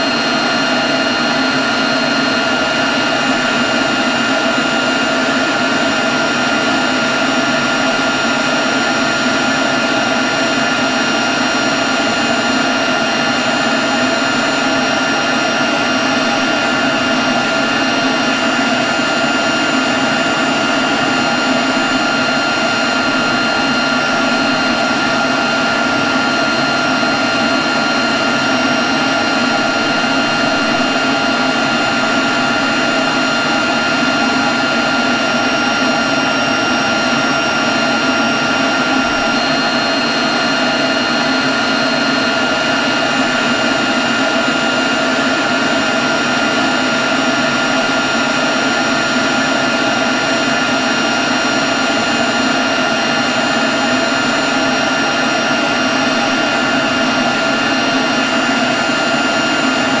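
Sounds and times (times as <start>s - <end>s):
leaf blower running: 0.0s - 60.0s.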